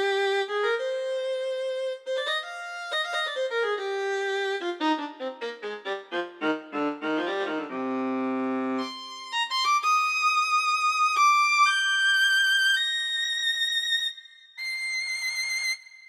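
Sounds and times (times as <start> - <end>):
keyboard playing string sounds: 0.0 - 13.8.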